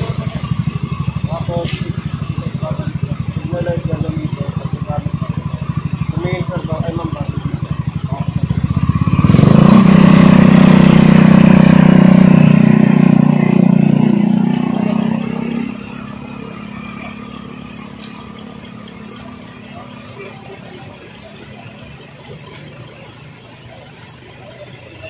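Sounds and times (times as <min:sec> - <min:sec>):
scooter engine idling and pulling away: 0:00.0 - 0:25.0.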